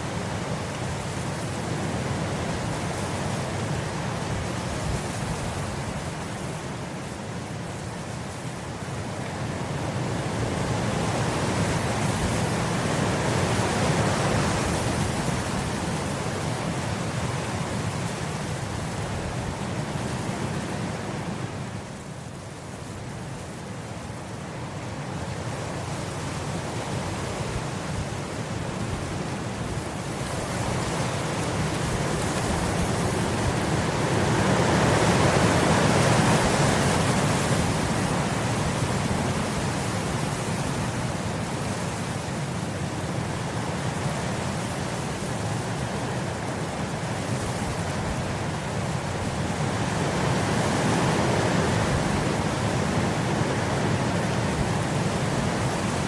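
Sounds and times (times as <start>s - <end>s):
wind gusting across grass: 0.0s - 56.0s.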